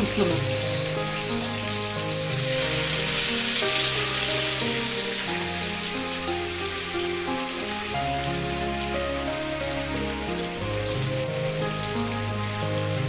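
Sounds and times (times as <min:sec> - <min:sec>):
background music with held notes: 0:00.0 - 0:13.0
onions sizzling in oil: 0:00.0 - 0:13.0.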